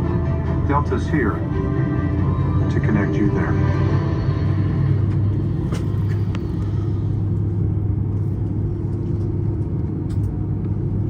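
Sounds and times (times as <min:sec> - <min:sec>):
airliner cabin rumble and hum: 0:00.0 - 0:11.0.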